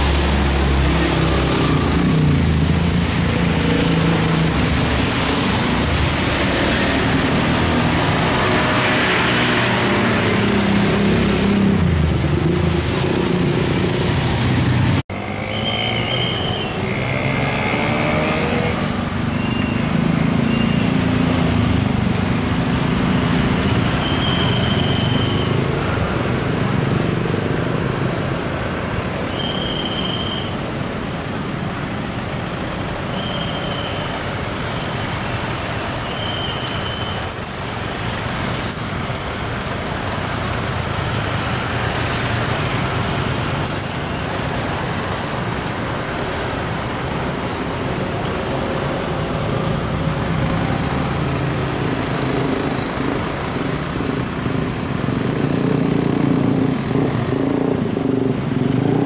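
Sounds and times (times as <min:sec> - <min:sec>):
motorcycles passing: 0:00.0 - 0:29.2, 0:39.4 - 0:59.0
slow traffic engines: 0:00.0 - 0:59.0.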